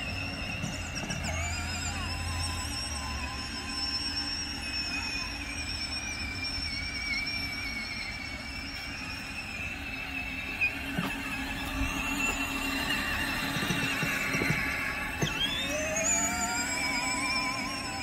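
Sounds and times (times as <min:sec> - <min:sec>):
toy car electric motors whining: 0:00.0 - 0:18.0.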